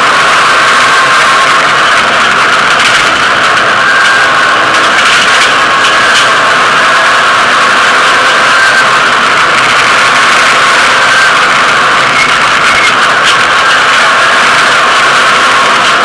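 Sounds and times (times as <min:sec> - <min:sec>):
rally car engine running hard: 0:00.0 - 0:16.0
road noise: 0:00.0 - 0:16.0.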